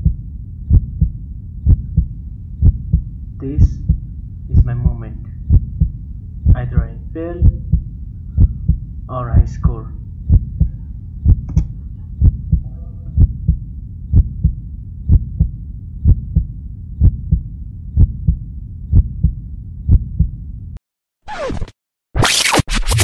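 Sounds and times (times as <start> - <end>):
heartbeat double thump: 0.0 - 9.7, 10.3 - 20.4.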